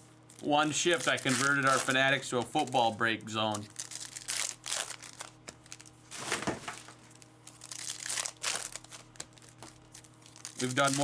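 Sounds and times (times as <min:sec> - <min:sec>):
wrappers crinkling and tearing: 0:00.2 - 0:11.0.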